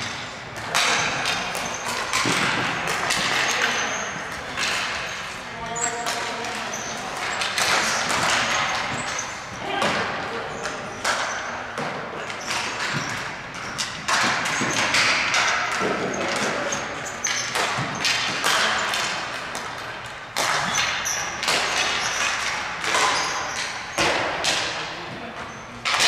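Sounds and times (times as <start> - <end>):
hockey sticks and ball knocking: 0.0 - 26.0.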